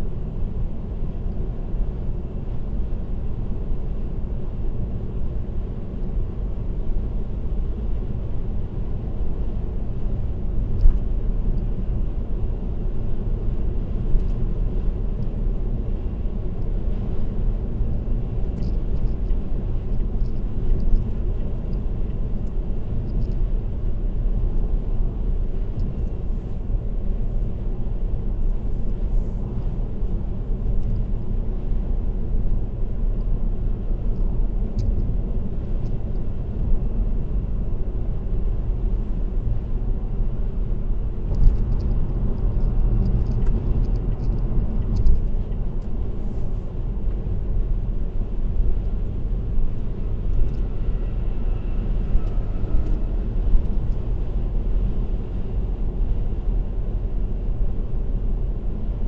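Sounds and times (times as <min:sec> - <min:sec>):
car road rumble from inside: 0:00.0 - 0:59.0.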